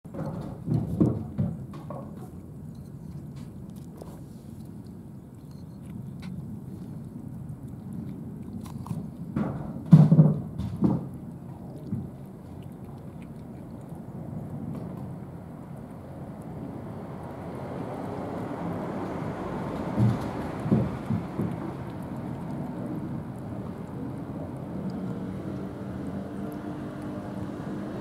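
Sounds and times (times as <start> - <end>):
cats chewing and crunching: 0.1 - 28.0
steady low rumble: 1.6 - 9.9, 11.0 - 28.0.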